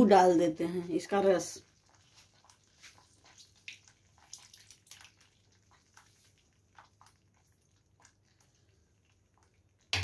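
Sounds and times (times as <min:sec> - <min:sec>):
juice dripping into pan: 0:00.8 - 0:10.0.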